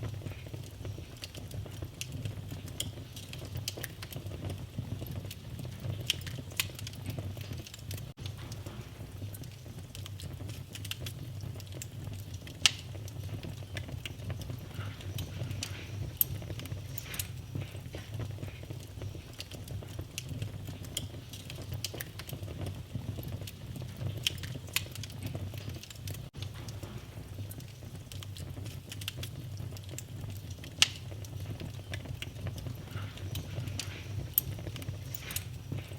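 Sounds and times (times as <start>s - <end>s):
low rumble of fire: 0.0s - 35.9s
wood fire crackling and popping: 0.0s - 35.9s.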